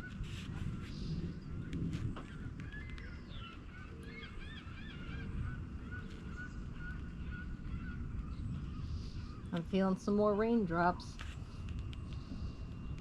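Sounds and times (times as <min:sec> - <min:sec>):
birds calling: 0:00.0 - 0:11.1
steady low rumble: 0:00.0 - 0:13.0.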